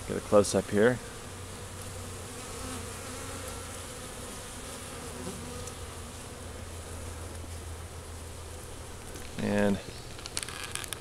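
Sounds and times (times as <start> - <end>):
bee swarm buzzing: 0.0 - 11.0.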